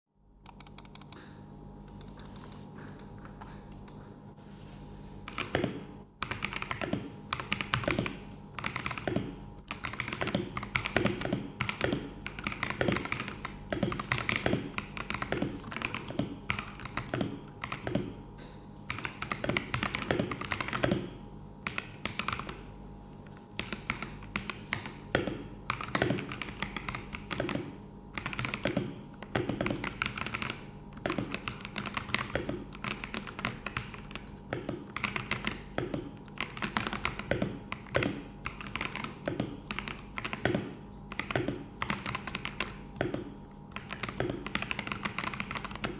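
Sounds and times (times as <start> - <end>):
steady low hum: 0.1 - 45.9
mechanical keyboard typing: 0.4 - 4.0, 5.3 - 18.1, 18.9 - 22.7, 23.6 - 45.9.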